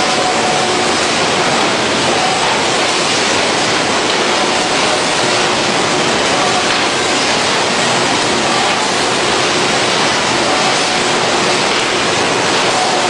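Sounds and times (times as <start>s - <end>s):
factory machinery rushing: 0.0s - 13.0s.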